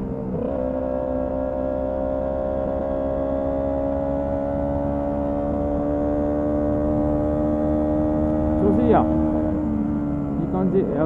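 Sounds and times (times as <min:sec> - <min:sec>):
motorcycle engine rising in pitch: 0:00.0 - 0:11.0.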